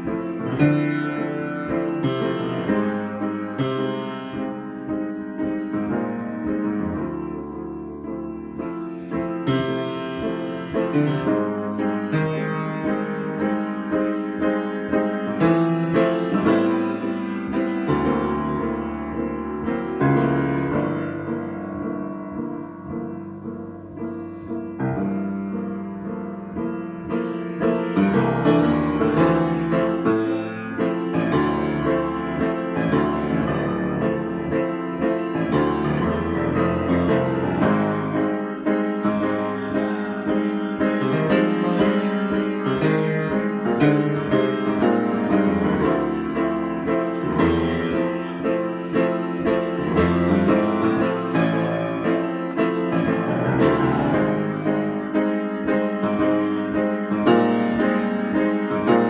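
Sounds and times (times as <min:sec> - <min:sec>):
solo piano improvisation: 0:00.0 - 0:59.0.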